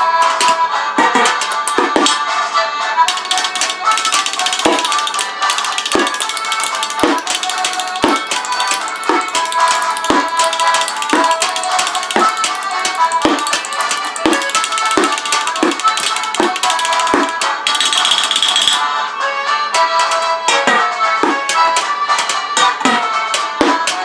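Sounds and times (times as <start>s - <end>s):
drumsticks on bin and tin cans: 0.0s - 2.2s, 3.1s - 18.8s, 19.7s - 24.0s
folk music: 0.0s - 24.0s.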